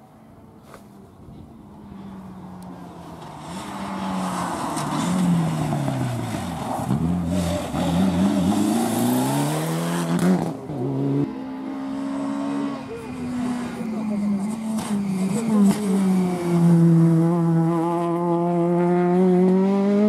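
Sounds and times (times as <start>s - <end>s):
rally car engine accelerating past: 3.2s - 20.0s.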